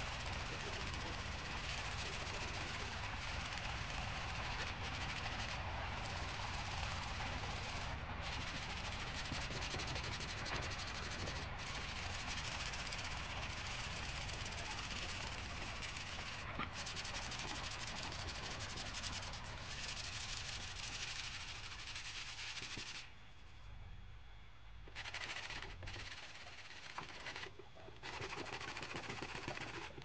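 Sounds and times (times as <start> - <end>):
hand sanding wood: 0.0 - 23.0, 24.9 - 30.0.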